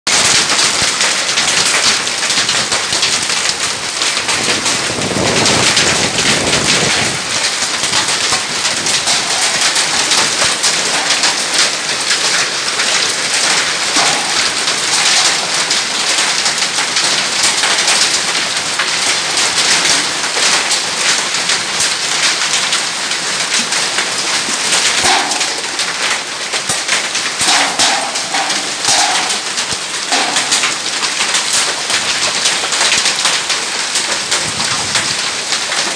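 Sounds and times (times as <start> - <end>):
hail on corrugated roofing: 0.1 - 35.9.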